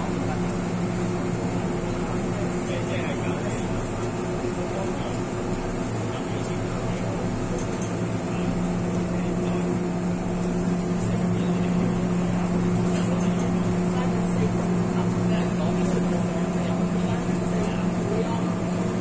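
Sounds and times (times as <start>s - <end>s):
low motor hum: 0.0s - 19.0s
train wheels rumbling on rail: 0.0s - 19.0s.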